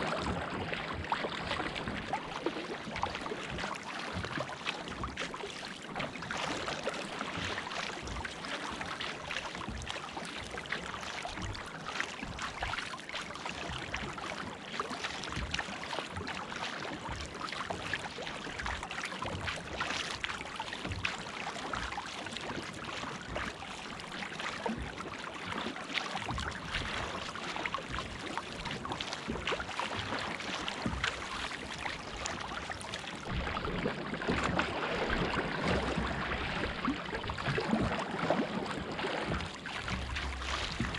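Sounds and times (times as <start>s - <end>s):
paddle splashes: 0.0s - 40.9s
water rushing along kayak hull: 0.0s - 40.9s.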